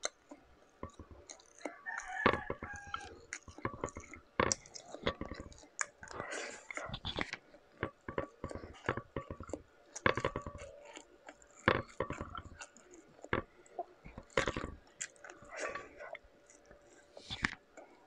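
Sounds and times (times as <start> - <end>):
mouth clicks and smacks: 0.0 - 18.0
person chewing: 0.0 - 18.0.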